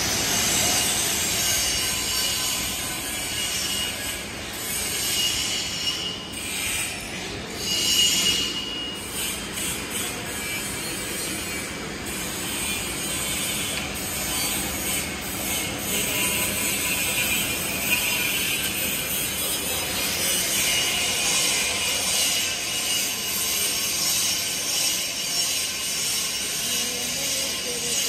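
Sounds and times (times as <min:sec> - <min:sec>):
shop noise: 0:00.0 - 0:28.0.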